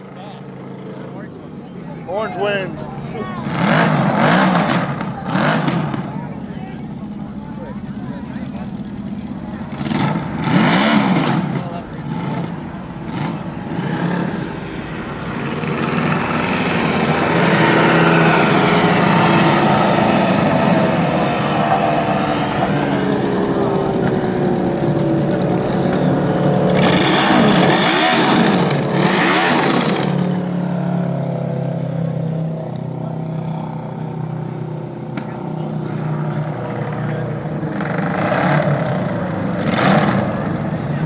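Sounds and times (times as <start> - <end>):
lawn mower engines revving: 0.0 - 41.0
mower passing close: 0.0 - 41.0.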